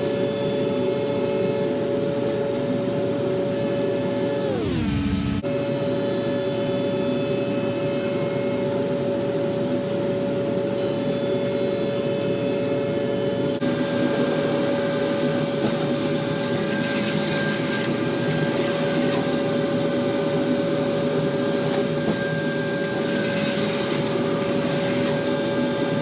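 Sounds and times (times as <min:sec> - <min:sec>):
panel saw hum and whine: 0:00.0 - 0:26.0.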